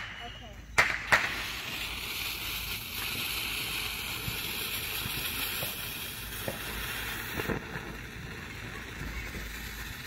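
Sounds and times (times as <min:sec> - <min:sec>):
faint crackles: 0:00.0 - 0:10.0
firework fuse hissing: 0:00.0 - 0:10.0.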